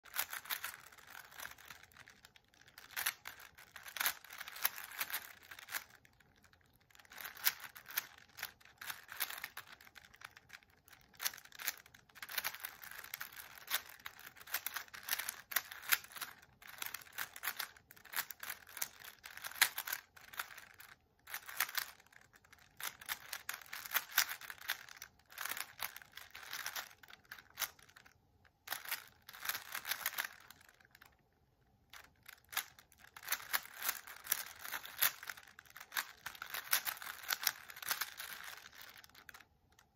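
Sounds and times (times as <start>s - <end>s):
puzzle cube clicking: 0.1s - 39.9s.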